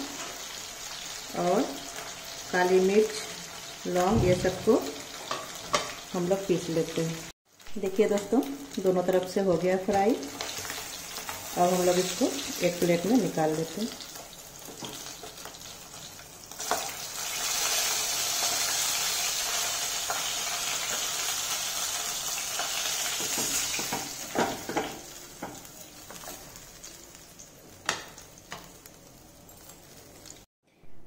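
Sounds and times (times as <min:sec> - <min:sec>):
fish sizzling in hot oil: 0:00.0 - 0:30.5.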